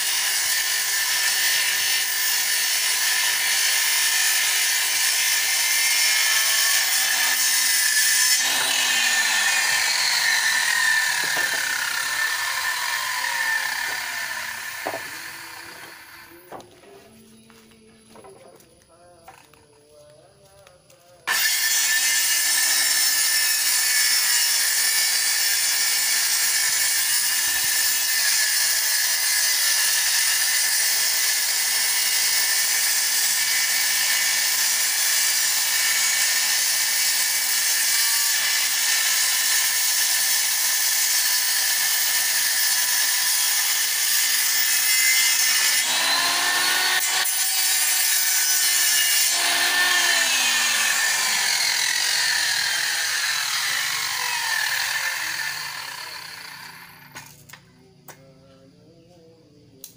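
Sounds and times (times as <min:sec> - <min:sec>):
circular saw cutting wood: 0:00.0 - 0:19.6, 0:21.2 - 0:57.7.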